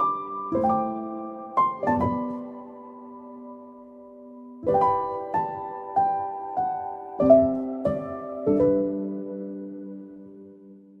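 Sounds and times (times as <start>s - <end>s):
calm piano music: 0.0s - 11.0s.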